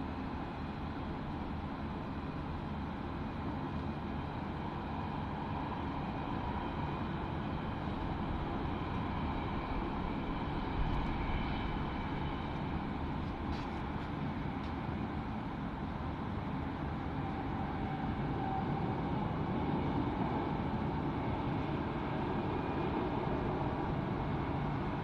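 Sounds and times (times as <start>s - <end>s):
jet engines rumbling with high whine: 0.0s - 25.0s.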